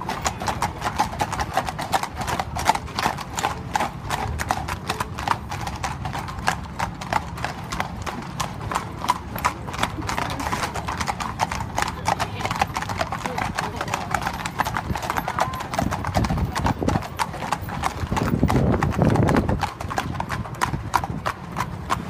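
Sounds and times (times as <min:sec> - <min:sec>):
horse hooves on tarmac: 0:00.0 - 0:22.0.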